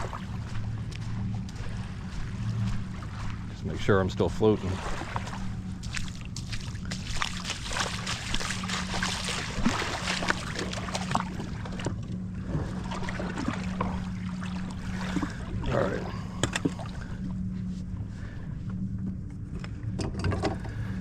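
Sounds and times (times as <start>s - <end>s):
shallow water splashing: 0.0s - 17.5s
steady low hum: 0.0s - 21.0s.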